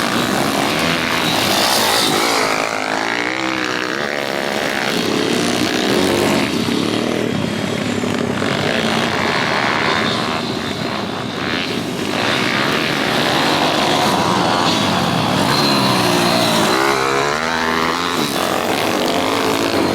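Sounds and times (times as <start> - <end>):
pit bike engines revving: 0.0 - 19.9.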